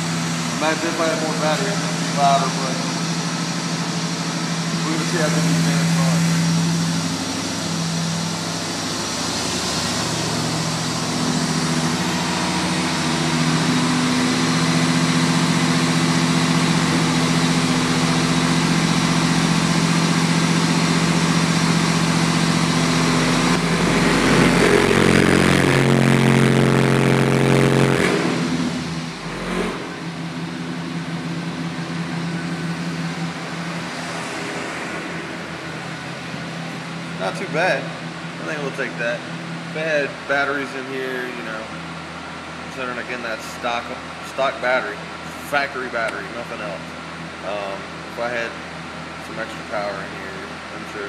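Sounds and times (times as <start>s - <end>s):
loud held bass notes: 0.0s - 40.9s.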